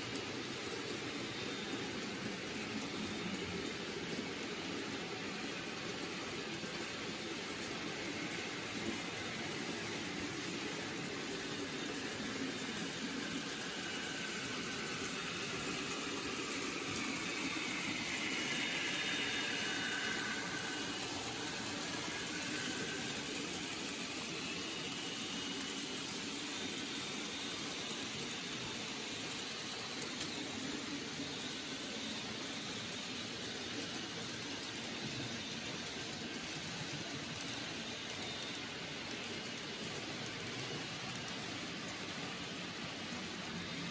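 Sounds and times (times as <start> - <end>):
model train running on track: 0.0 - 43.9.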